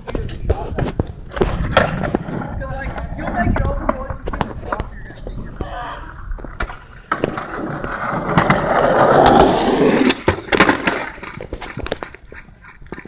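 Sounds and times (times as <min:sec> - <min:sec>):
skateboard clacking on ground: 0:00.0 - 0:13.0
skateboard wheels rolling on pavement: 0:00.0 - 0:13.0.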